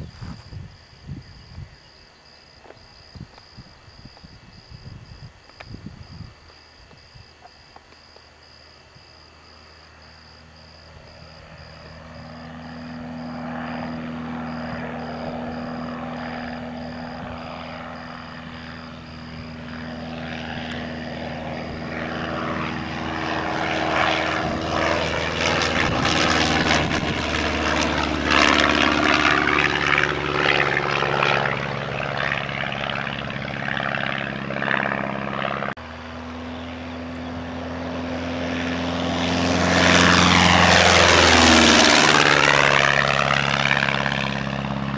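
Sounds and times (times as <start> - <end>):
light airplane flying past: 0.0 - 44.9.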